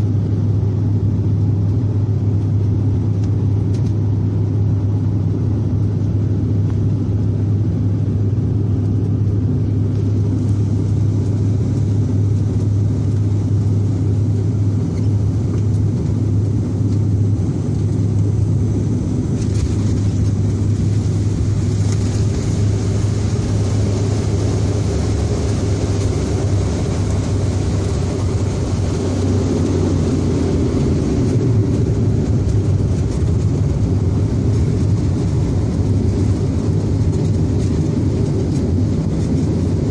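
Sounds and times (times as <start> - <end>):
propeller and engine drone: 0.0 - 39.9.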